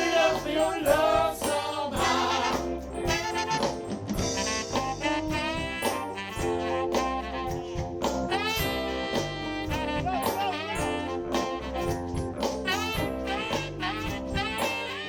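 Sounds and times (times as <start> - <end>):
bass: 0.0 - 15.0
saxophone and brass lines: 0.0 - 15.0
steady drum beat: 0.0 - 15.0.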